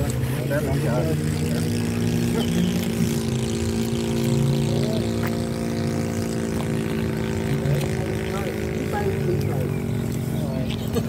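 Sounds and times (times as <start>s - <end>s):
model aircraft engine idling: 0.0s - 11.0s.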